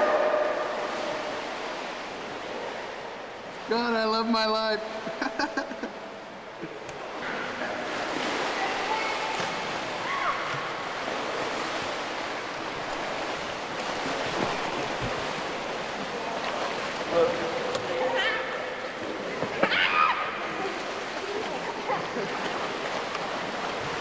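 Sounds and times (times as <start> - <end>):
water splashing in pool: 0.0 - 24.0.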